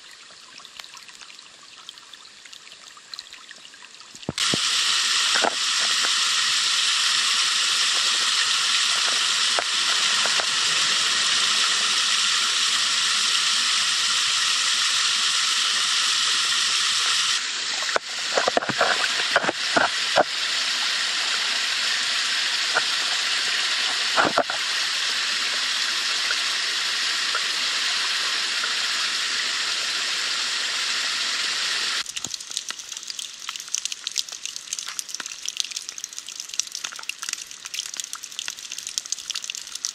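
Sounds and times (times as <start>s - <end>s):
water rushing into drain: 4.2s - 39.9s.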